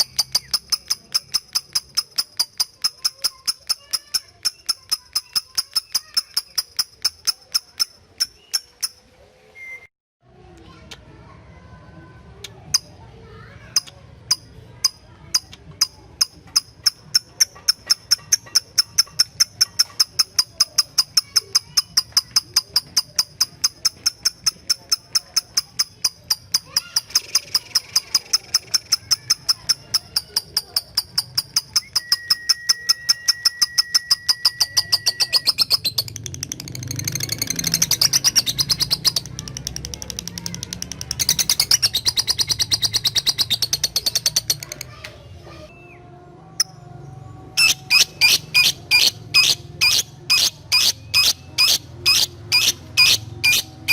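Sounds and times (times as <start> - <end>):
lovebird chattering: 0.0 - 9.0, 13.7 - 45.0, 47.6 - 53.9
lovebird ticking call: 0.0 - 9.0, 13.8 - 44.8, 47.6 - 53.9.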